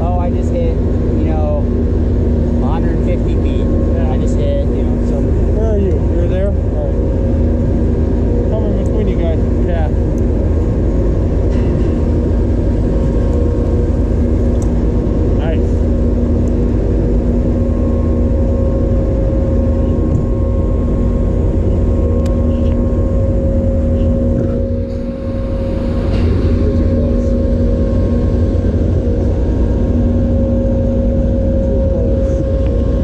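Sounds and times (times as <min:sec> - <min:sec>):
machinery hum: 0:00.0 - 0:33.0.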